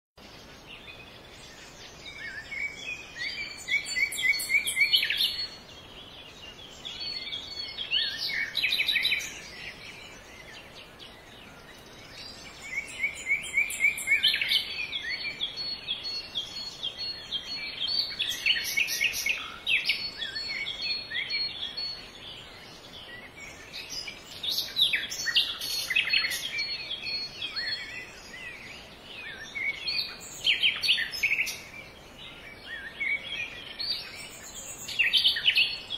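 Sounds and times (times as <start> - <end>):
faint background hiss: 0.2 - 35.9
songbirds singing: 0.2 - 35.9.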